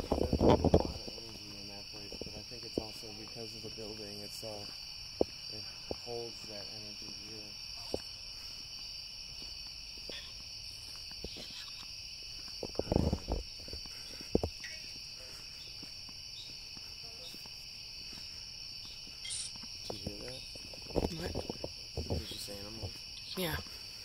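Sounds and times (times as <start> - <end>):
night insects chorus: 0.0 - 24.0.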